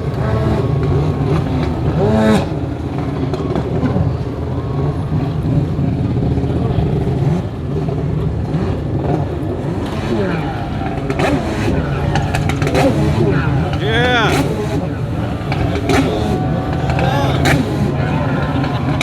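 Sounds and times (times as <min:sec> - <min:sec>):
jet ski engine revving: 0:00.0 - 0:19.0.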